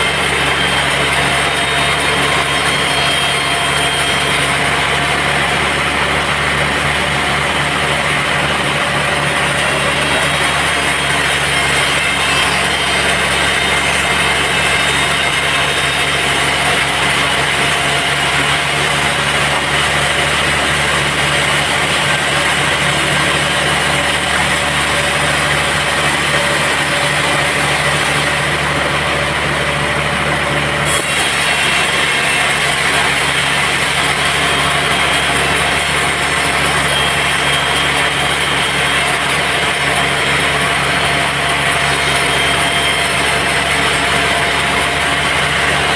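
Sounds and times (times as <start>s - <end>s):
band saw machine din: 0.0s - 45.9s.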